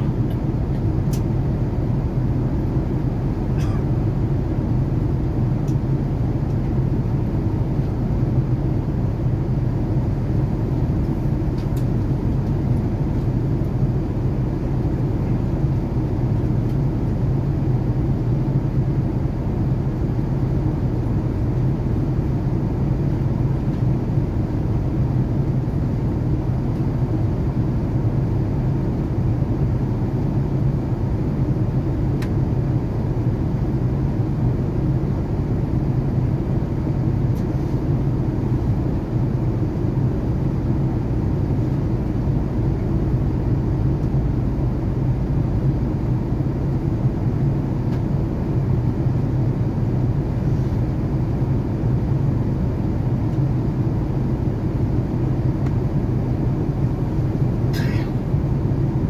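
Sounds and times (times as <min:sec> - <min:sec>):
airplane cabin low rumble: 0:00.0 - 0:59.0.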